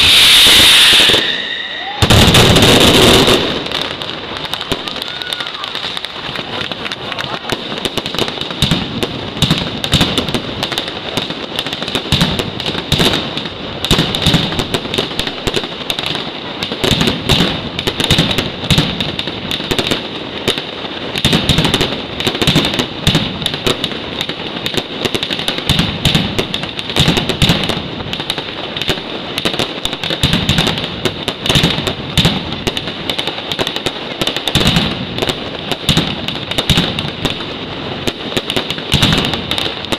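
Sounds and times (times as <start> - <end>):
aerial fireworks exploding: 0.0 - 39.9
firecracker bangs and crackle: 0.0 - 39.9.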